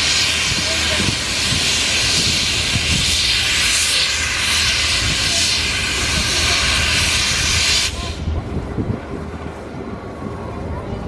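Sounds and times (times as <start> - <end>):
steam locomotive hissing steam: 0.0 - 8.9.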